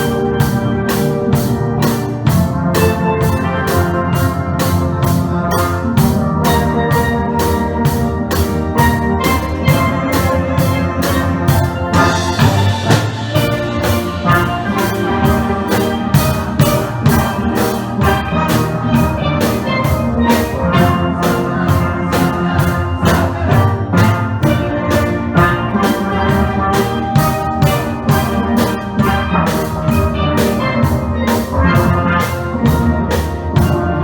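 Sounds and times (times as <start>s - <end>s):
steady drum beat: 0.0s - 34.0s
steelpans playing melody: 0.0s - 34.0s.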